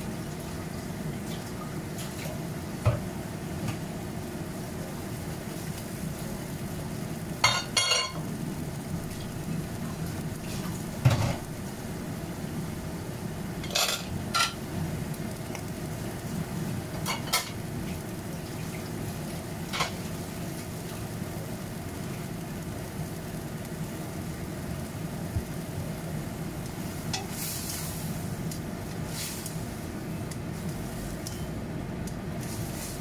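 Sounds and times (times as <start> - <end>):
okra sizzling in hot oil: 0.0 - 33.0.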